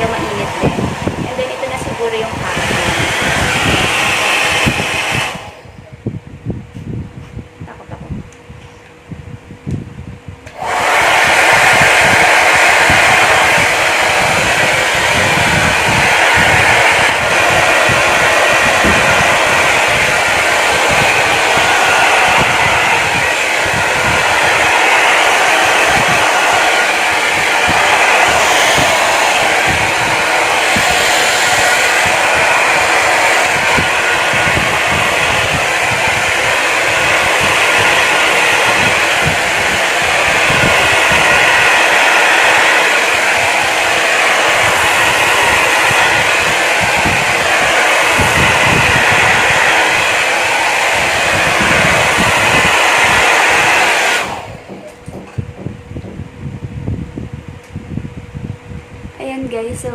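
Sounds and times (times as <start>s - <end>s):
hair dryer running: 0.0s - 7.0s, 9.7s - 59.9s.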